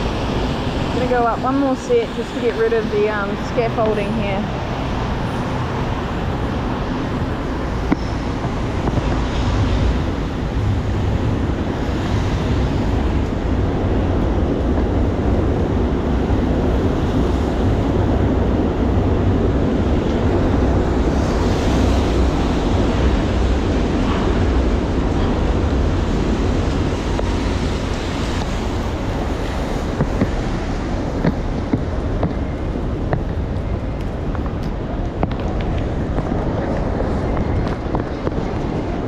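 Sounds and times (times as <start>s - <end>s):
rain: 0.0s - 39.0s
street traffic: 0.0s - 39.0s
wind buffeting microphone: 0.0s - 39.0s.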